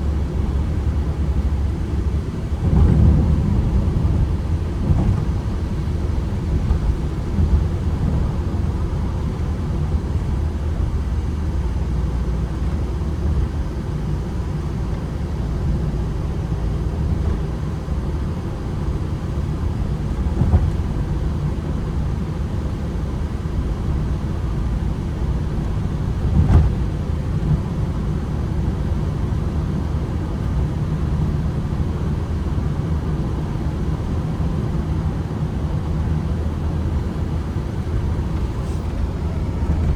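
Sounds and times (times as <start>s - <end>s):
road rumble: 0.0s - 39.9s
van engine drone: 0.0s - 39.9s.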